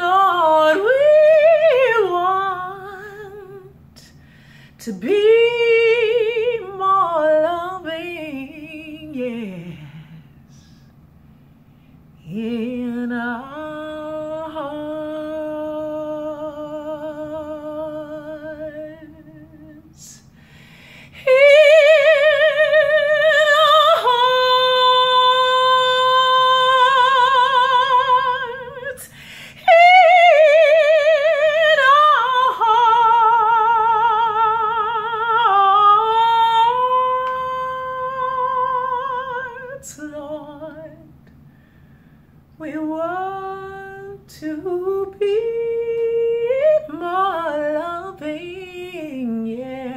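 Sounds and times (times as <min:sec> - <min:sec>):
woman singing with vibrato: 0:00.0 - 0:04.2, 0:04.8 - 0:10.8, 0:12.2 - 0:41.2, 0:42.6 - 0:49.9.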